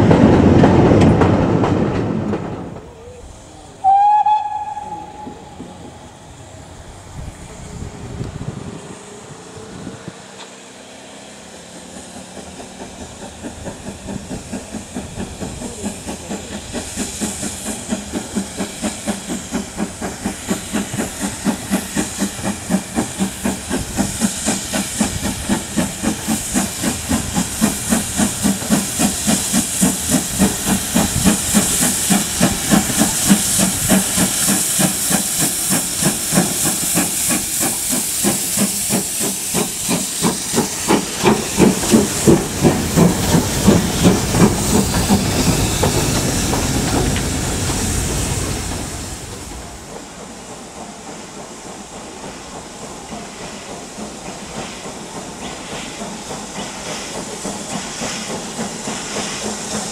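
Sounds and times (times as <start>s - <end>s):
hissing steam: 0.0s - 59.9s
steam locomotive chuffing: 0.0s - 59.9s.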